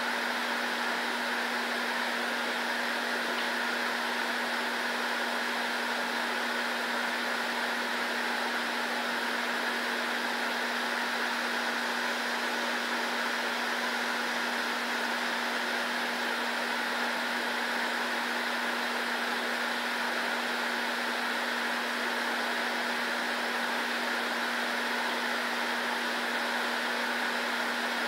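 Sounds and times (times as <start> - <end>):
fan whirring: 0.0 - 28.0.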